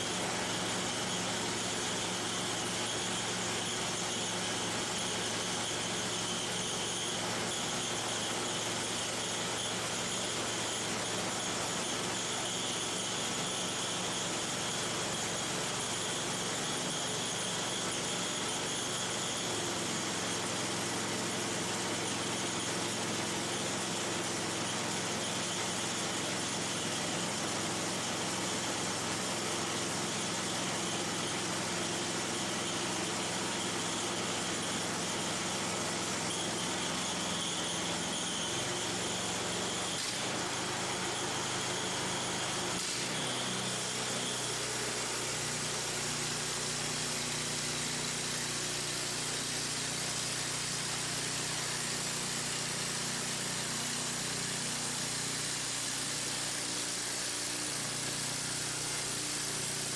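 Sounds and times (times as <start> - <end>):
band saw mill engine running: 0.0 - 59.9
saw blade cutting wood: 0.0 - 59.9.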